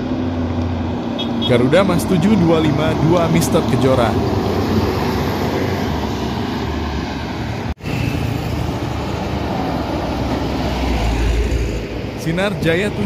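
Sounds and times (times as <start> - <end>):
coach passing by: 0.0 - 13.0
road noise from trucks: 0.0 - 13.0.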